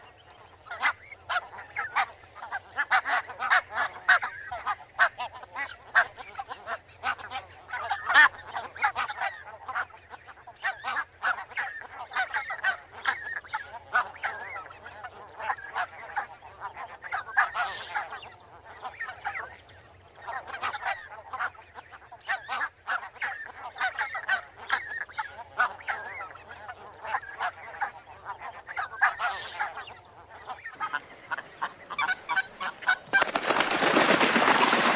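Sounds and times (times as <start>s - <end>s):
geese honking: 0.0s - 34.9s.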